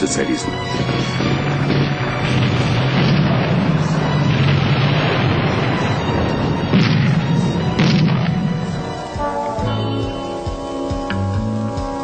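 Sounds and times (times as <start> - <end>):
film music: 0.0 - 12.0
rumble of explosions: 0.0 - 12.0
sharp blasts: 0.0 - 12.0.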